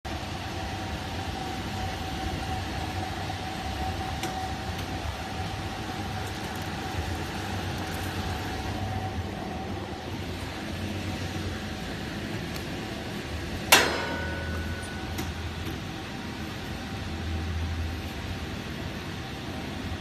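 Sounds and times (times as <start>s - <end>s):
steady whining tone: 0.1s - 20.0s
steam boiler rumble: 0.1s - 20.0s.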